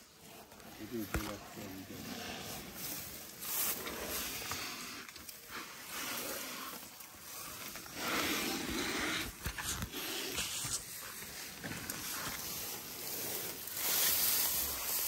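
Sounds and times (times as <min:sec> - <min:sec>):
trunks and skin rustling: 0:00.3 - 0:15.0.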